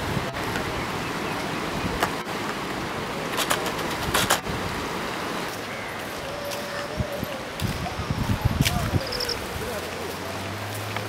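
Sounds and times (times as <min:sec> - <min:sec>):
floodwater rushing in river: 0:00.0 - 0:11.0.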